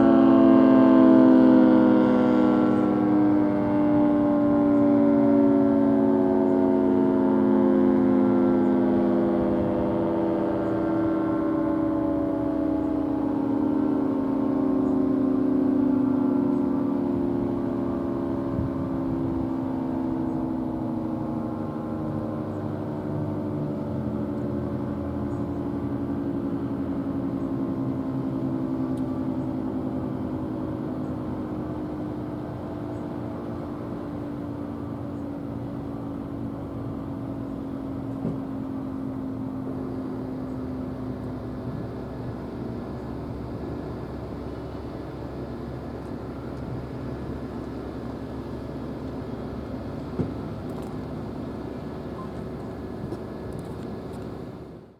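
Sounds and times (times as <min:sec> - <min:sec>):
three-tone warning siren winding down: 0:00.0 - 0:54.7.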